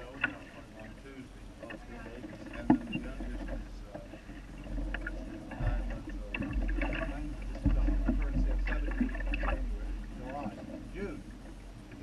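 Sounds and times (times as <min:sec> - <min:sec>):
faint indistinct voices: 0:00.0 - 0:12.0
water running along hull: 0:00.0 - 0:12.0
wind rumbling on microphone: 0:00.0 - 0:12.0.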